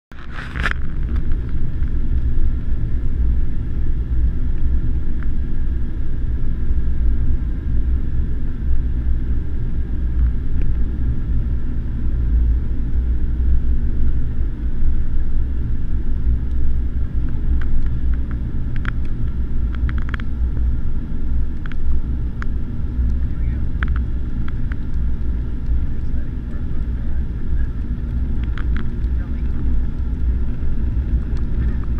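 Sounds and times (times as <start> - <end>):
airliner cabin engine rumble: 0.1 - 31.9.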